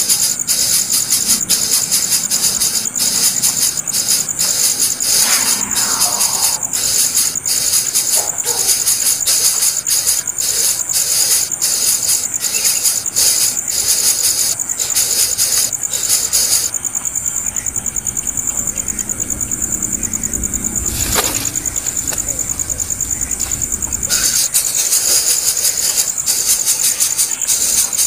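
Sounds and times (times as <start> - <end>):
shrill insect chorus: 0.0 - 28.0.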